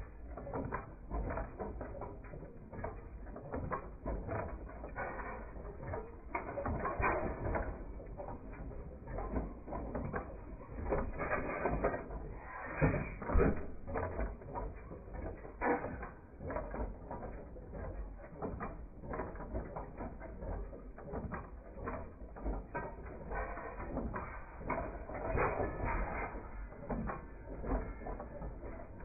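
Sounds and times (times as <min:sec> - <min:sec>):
machinery clattering: 0:00.0 - 0:29.0.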